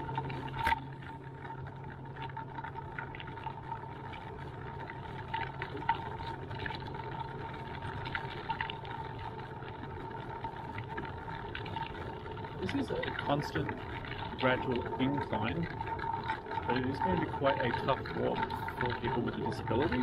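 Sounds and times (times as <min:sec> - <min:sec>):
thin whine: 0:00.0 - 0:20.0.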